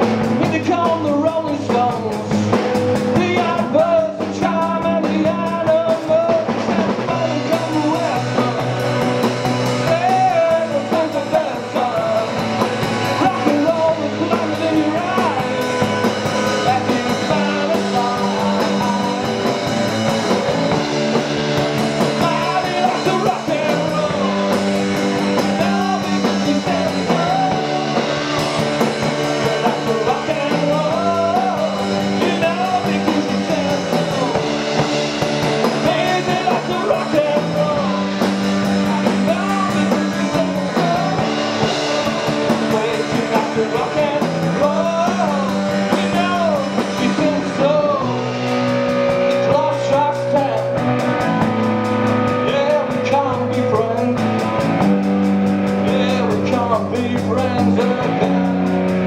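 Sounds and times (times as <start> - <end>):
bass line: 0.0 - 59.0
bending lead guitar line: 0.0 - 59.0
drum kit: 0.0 - 59.0
electric guitars: 0.0 - 59.0.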